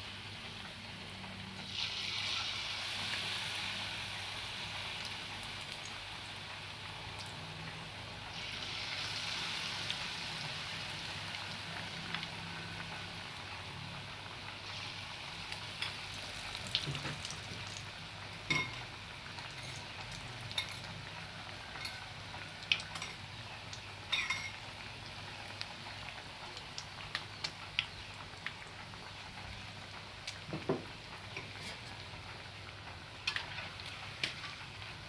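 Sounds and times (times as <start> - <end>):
food frying in oil: 0.0 - 35.0.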